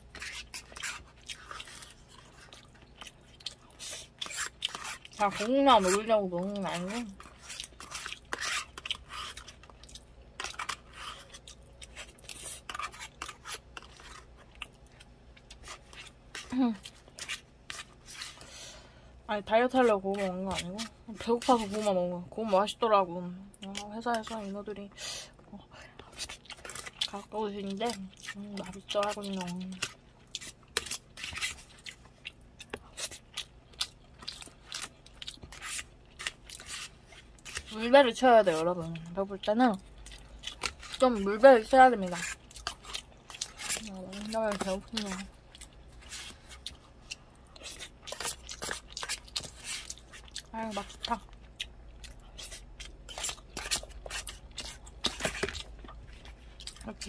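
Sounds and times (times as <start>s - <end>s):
chewing: 0.0s - 18.4s, 25.8s - 57.0s.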